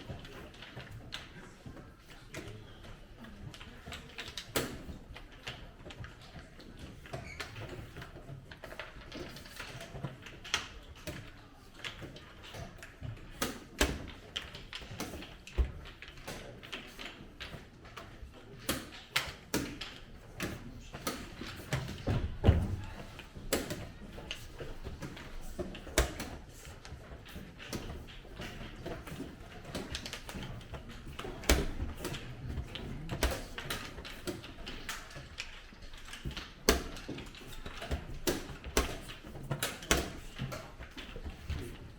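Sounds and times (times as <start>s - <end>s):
faint room noise: 0.0s - 41.9s.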